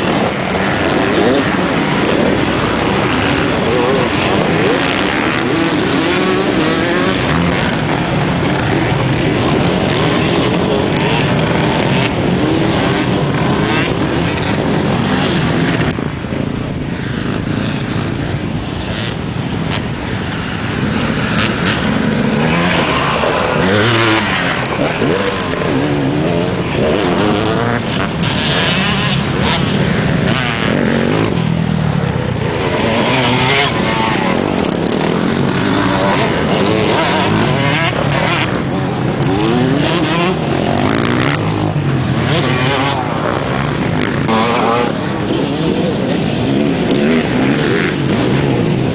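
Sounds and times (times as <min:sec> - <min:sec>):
motorcycles revving: 0:00.0 - 0:48.9.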